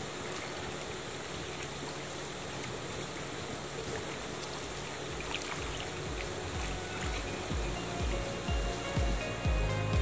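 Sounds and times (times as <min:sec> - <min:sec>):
water lapping around boats: 0:00.0 - 0:10.0.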